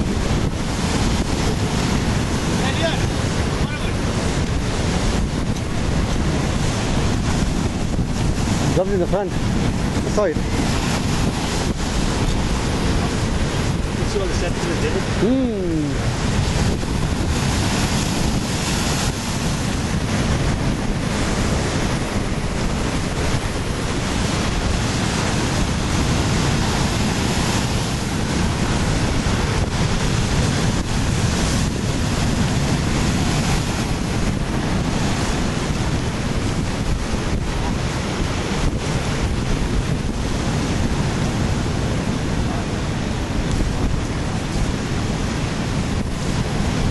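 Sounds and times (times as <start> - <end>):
surf breaking on rocky shore: 0.0 - 46.9
wind buffeting microphone: 0.0 - 46.9.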